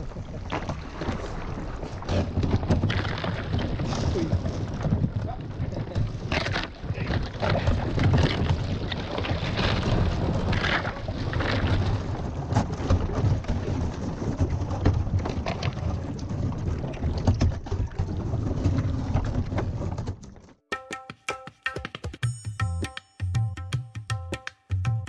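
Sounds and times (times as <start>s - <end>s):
ice scraping along kayak hull: 0.0s - 20.5s.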